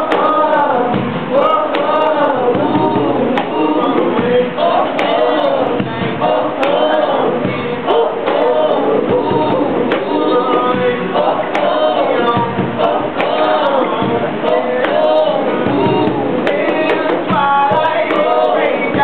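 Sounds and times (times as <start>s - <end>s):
voices singing in harmony: 0.0s - 19.0s.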